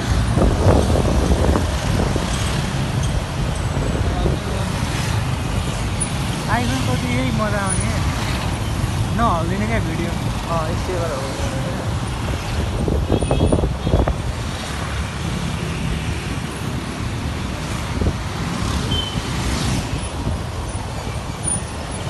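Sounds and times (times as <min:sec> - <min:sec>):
wind rumbling on microphone: 0:00.0 - 0:06.4, 0:10.1 - 0:22.0
surrounding traffic: 0:00.0 - 0:22.0.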